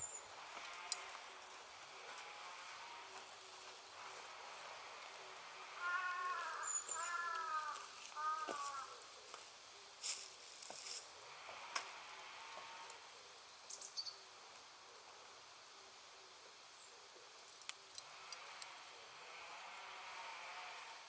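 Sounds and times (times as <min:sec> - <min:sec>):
bonfire crackling: 0:00.0 - 0:19.9.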